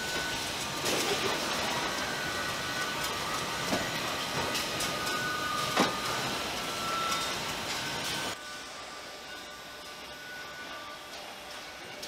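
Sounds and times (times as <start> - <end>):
faint machine whine: 0.0 - 12.0.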